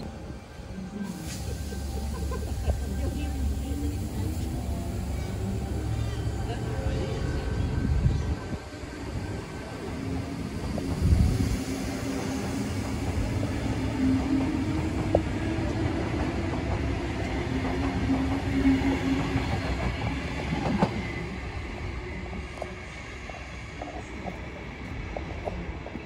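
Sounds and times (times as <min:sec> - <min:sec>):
electric train humming: 0:00.0 - 0:26.0
train wheels rumbling on rail: 0:00.0 - 0:26.0.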